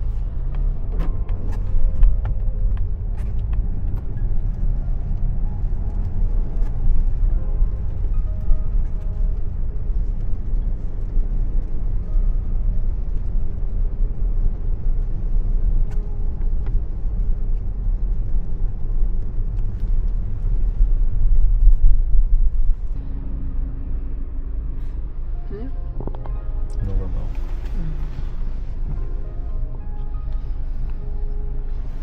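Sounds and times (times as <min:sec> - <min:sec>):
car driving rumble: 0:00.0 - 0:32.0.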